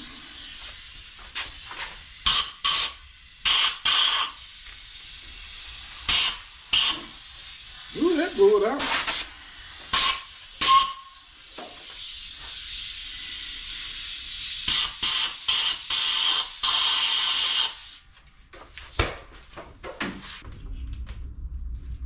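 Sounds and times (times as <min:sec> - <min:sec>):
compressed air blasts: 0:00.0 - 0:18.0.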